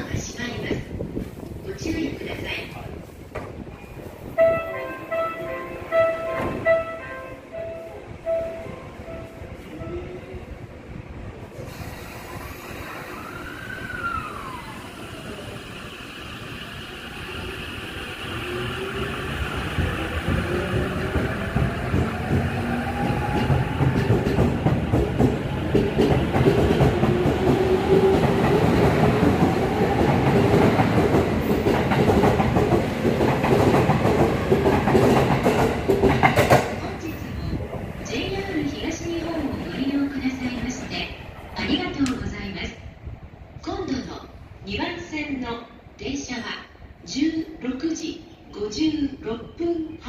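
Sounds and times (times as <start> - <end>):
wheels rumbling on rail: 0.1 - 43.5.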